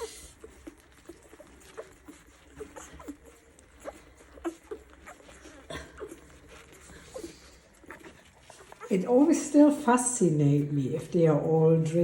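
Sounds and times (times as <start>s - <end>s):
puppies squeaking: 0.0s - 12.0s
puppies suckling and swallowing: 0.0s - 12.0s.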